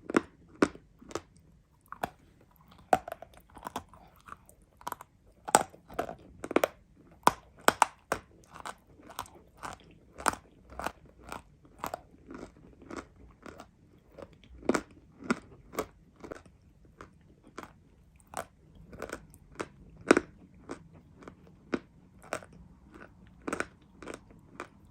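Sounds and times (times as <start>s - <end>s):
crunchy chewing: 0.0s - 24.9s.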